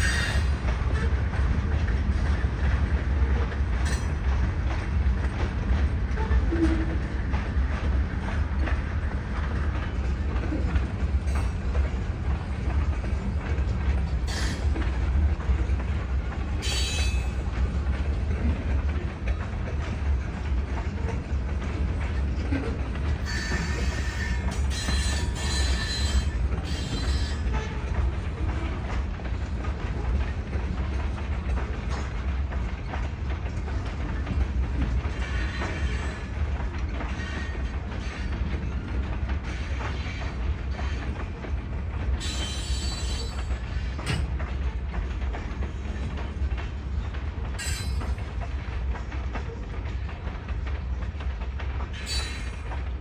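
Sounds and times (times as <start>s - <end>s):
freight train rumbling: 0.0s - 53.0s.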